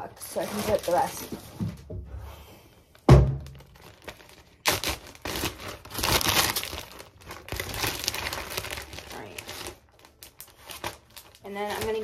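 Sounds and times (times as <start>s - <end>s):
plastic bag crinkling: 0.0s - 1.5s, 2.9s - 12.0s.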